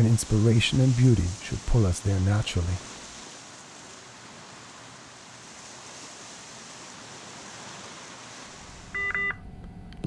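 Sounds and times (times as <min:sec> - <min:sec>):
surf washing over rocks: 0:00.0 - 0:09.2.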